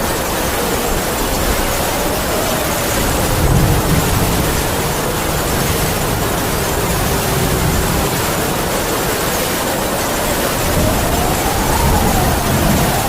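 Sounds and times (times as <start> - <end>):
heavy rain: 0.0 - 13.0
howling wind: 0.0 - 13.0.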